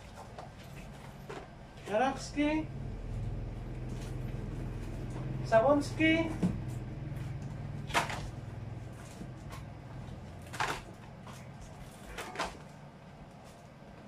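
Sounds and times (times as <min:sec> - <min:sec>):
low hum: 0:00.0 - 0:13.3.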